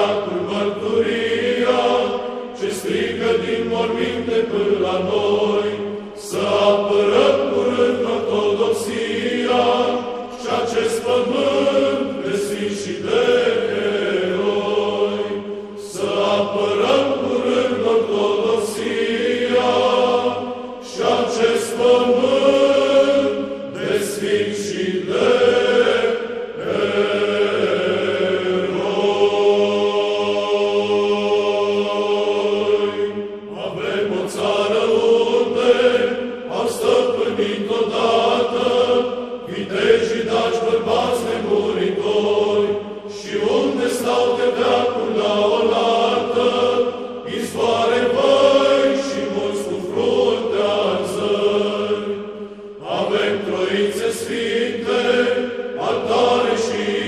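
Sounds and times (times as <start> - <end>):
choir chanting: 0.0 - 57.0.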